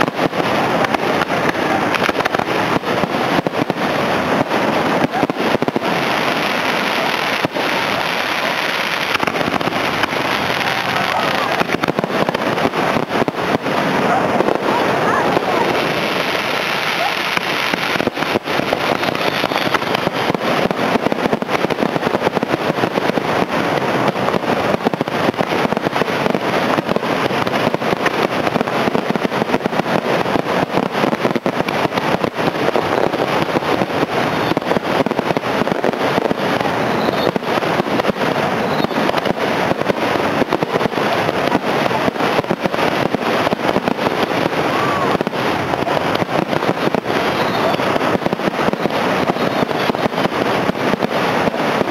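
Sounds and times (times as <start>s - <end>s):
fireworks bursting with crackle: 0.0s - 51.9s.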